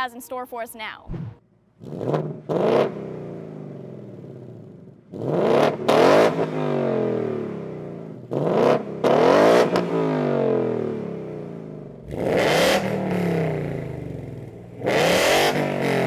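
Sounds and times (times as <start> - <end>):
car engine revving: 1.8 - 16.0.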